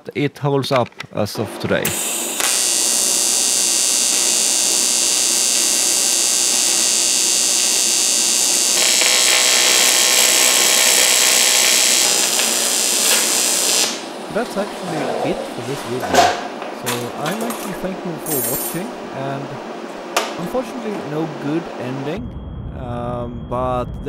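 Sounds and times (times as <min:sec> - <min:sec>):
welding arc buzzing: 0:01.9 - 0:22.2.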